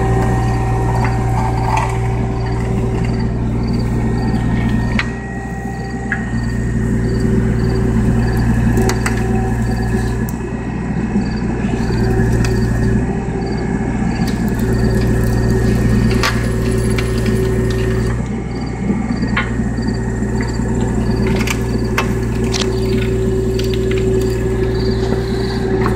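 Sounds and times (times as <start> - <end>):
skid steer engine running: 0.0 - 25.9.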